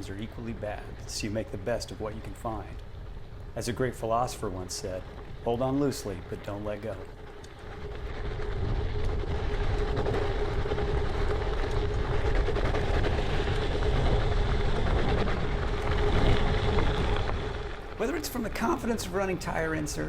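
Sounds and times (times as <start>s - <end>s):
bike rattling and clicking: 0.0s - 20.0s
bike tyres rumbling on gravel: 0.0s - 20.0s.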